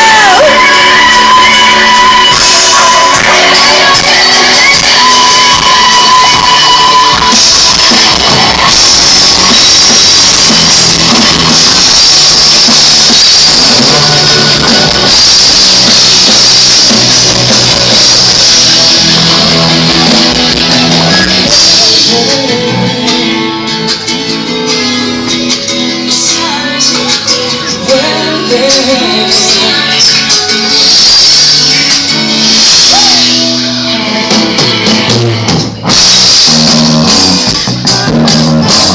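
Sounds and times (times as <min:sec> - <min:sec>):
live rock band playing: 0:00.0 - 0:38.9
sustained guitar and bass notes: 0:00.0 - 0:38.9.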